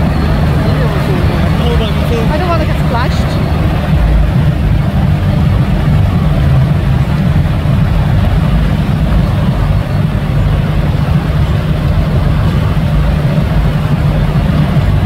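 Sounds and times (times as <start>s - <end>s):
low machine rumble: 0.0s - 15.0s
rushing water: 0.0s - 15.0s.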